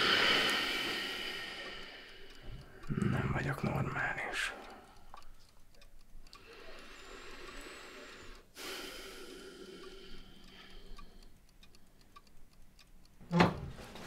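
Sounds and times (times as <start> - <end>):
clocks ticking: 0.0 - 14.0.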